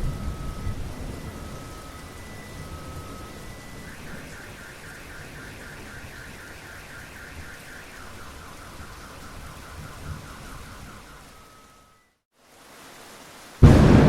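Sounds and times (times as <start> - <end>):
rain: 0.0 - 14.0
car alarm warbling: 0.2 - 12.1.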